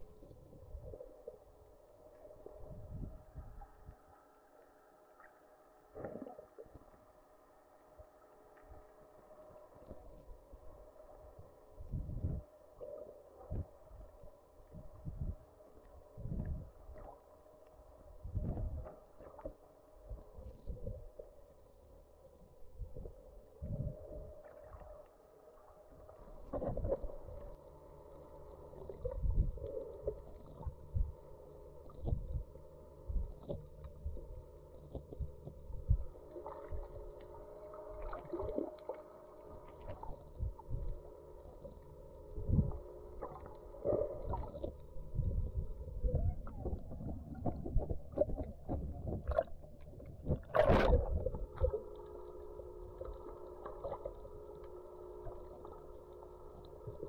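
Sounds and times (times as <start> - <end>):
motor humming underwater: 0.0 - 57.0.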